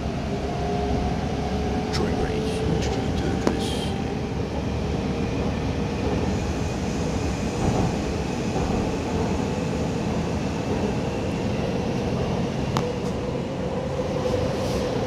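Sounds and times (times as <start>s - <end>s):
train wheels rumbling: 1.7s - 15.0s.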